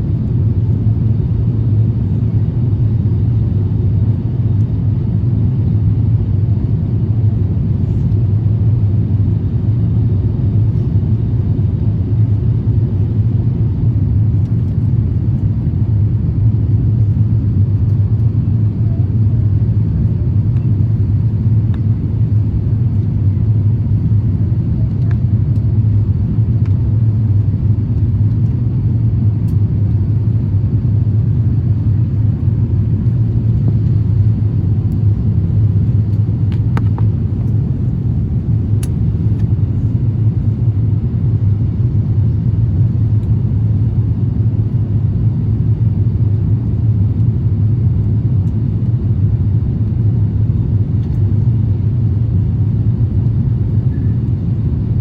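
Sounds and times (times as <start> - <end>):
aircraft cabin engine rumble: 0.0 - 55.0.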